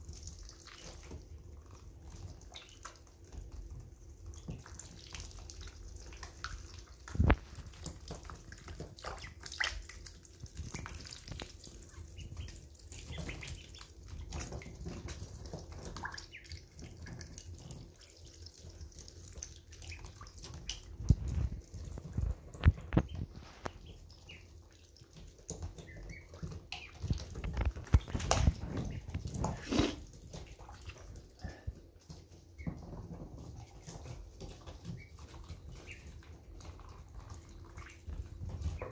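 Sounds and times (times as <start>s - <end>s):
ducklings dabbling in water: 0.0s - 38.9s
water dripping and splashing: 0.0s - 38.9s.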